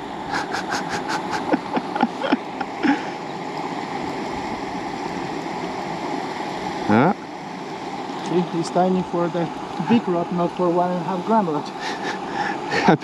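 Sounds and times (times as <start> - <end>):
river water rushing: 0.0 - 13.0
wind: 0.0 - 13.0.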